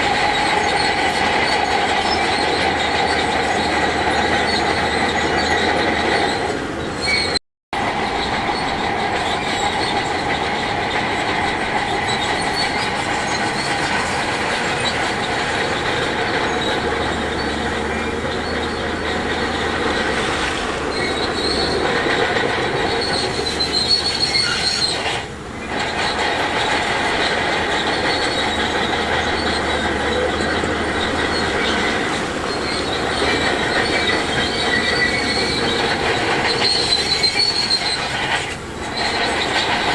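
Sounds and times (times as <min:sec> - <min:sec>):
bulldozer engine: 0:00.0 - 0:39.9
crawler tracks squealing and clattering: 0:00.0 - 0:39.9.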